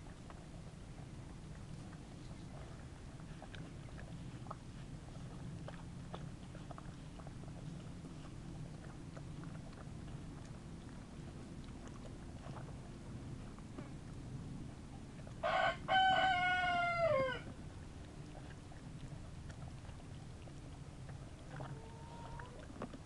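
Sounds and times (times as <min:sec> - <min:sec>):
dogs chewing and licking: 0:00.0 - 0:23.0
low steady rumble: 0:00.0 - 0:23.0.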